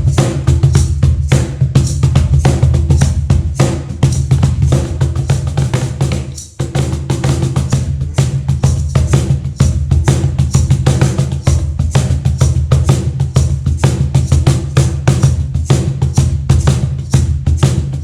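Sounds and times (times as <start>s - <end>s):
cajon played by hand: 0.0s - 18.0s.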